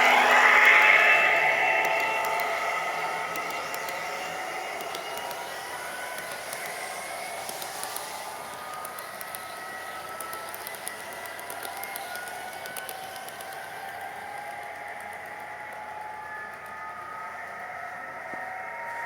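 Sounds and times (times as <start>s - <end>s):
model train motor whirring: 0.0s - 15.4s
wheels clicking over track: 0.0s - 16.8s.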